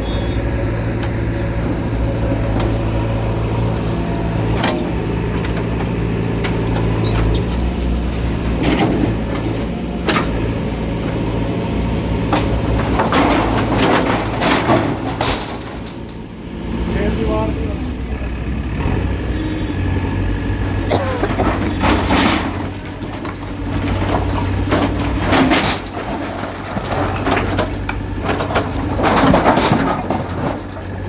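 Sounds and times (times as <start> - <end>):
bulldozer diesel engine running: 0.0 - 31.0
structure breaking clattering: 0.8 - 16.4, 20.6 - 31.0.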